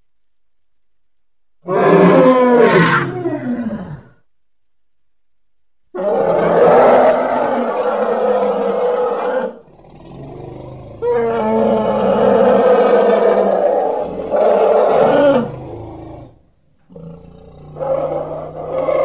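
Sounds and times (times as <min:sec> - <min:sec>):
elephant roaring calls: 0:01.6 - 0:04.2, 0:06.0 - 0:19.0.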